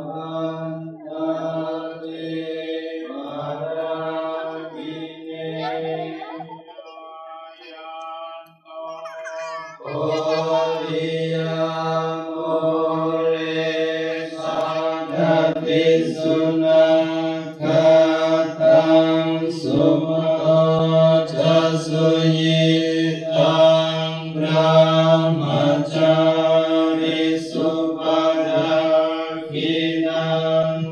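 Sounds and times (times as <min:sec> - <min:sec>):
group chanting in low drone: 0:00.0 - 0:30.9.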